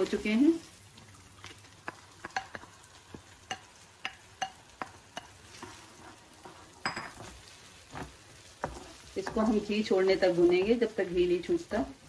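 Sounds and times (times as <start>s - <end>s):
faint sizzling: 0.0s - 12.0s.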